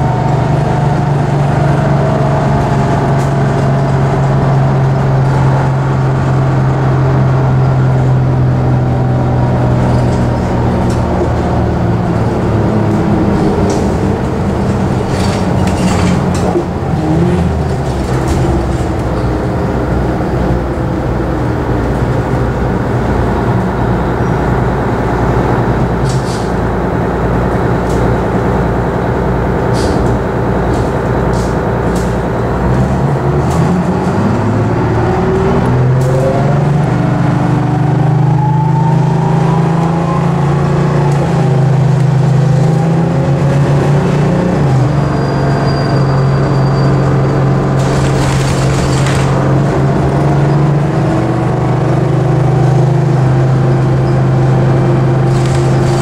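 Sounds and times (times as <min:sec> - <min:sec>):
bus engine idling and accelerating: 0:00.0 - 0:56.0.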